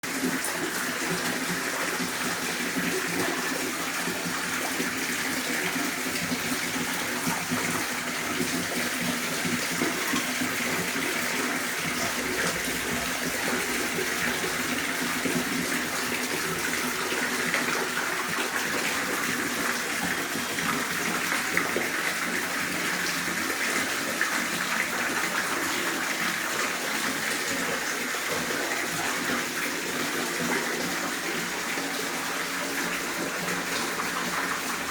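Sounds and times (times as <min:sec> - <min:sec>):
fountain water splashing: 0:00.0 - 0:34.9.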